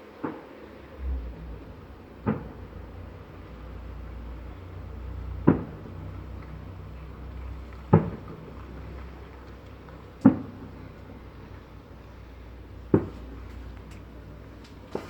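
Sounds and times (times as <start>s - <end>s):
low steady rumble: 0.1s - 15.0s.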